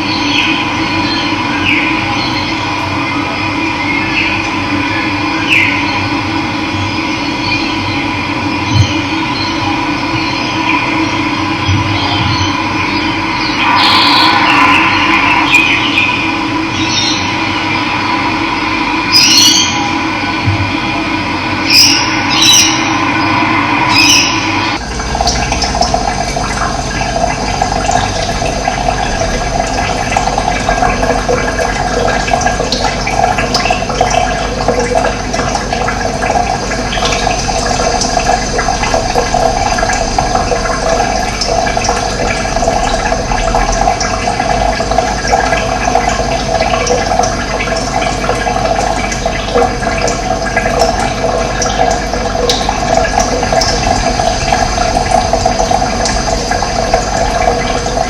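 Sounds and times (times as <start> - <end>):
running water gurgling: 0.0 - 58.0.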